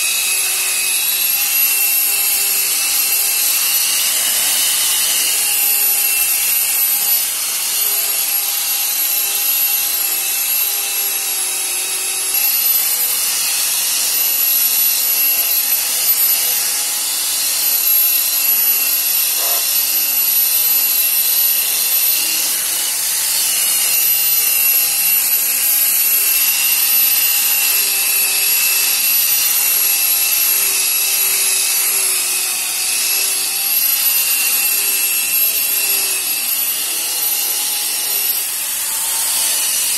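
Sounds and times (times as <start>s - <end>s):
car polisher whining: 0.0s - 39.9s.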